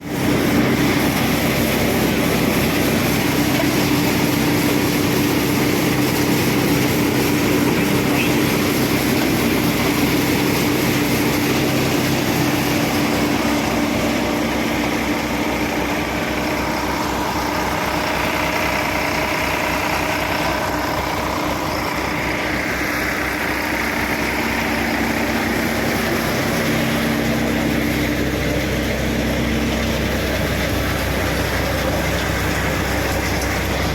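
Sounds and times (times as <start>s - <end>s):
thresher and tractor engine running: 0.0s - 33.9s.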